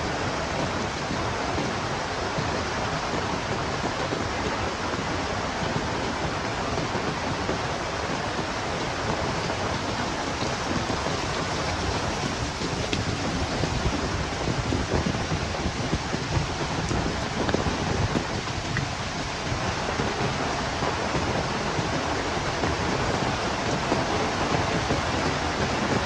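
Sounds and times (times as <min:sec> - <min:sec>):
gusting wind rumbling: 0:00.0 - 0:26.0
heavy rain hiss: 0:00.0 - 0:26.0.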